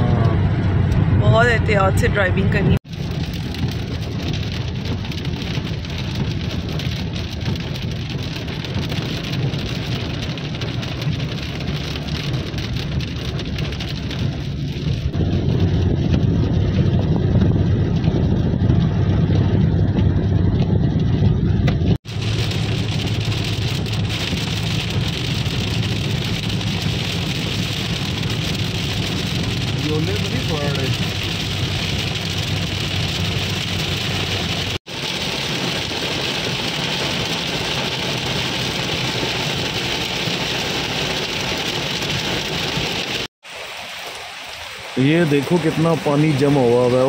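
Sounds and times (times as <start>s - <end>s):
engine and tyre rumble: 0.0s - 43.4s
rain hiss on wet road: 2.9s - 18.6s, 20.0s - 47.0s.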